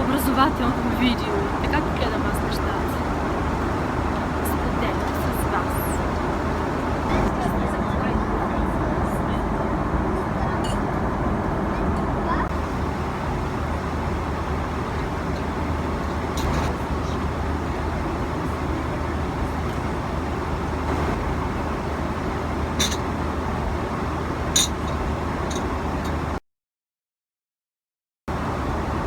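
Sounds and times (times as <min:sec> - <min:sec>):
airliner cabin roar: 0:00.0 - 0:26.4, 0:28.3 - 0:29.0
low hum: 0:00.0 - 0:26.4.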